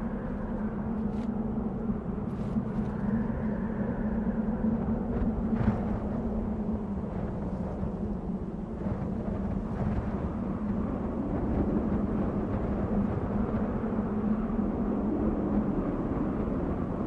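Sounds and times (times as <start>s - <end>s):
low hum: 0.0s - 17.0s
wind blowing: 0.0s - 17.0s.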